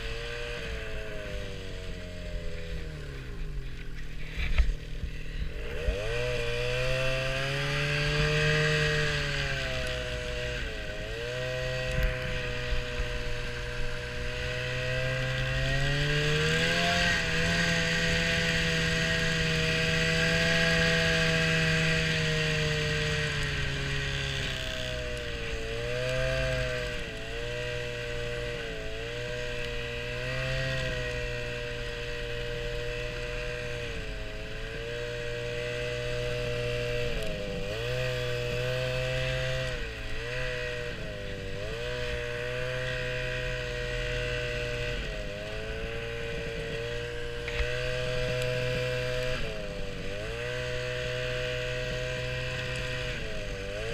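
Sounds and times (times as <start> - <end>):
small petrol engine revving: 0.0 - 53.9.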